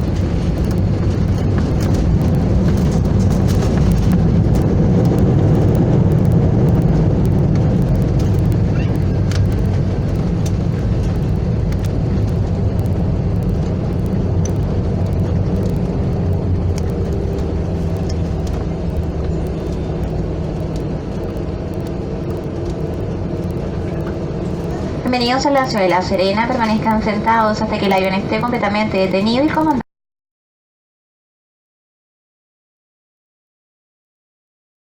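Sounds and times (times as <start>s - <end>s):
airliner cabin rumble: 0.0s - 29.8s
faint clicks and rattles: 0.0s - 29.8s.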